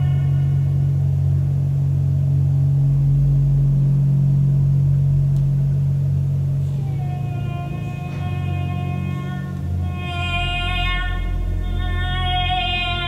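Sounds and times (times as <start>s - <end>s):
deep rumble: 0.0s - 13.0s
low drone: 0.0s - 13.0s.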